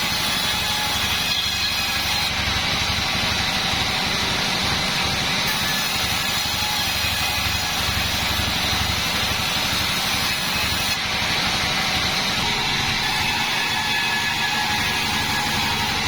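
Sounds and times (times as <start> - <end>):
band sawmill running: 0.0 - 16.0.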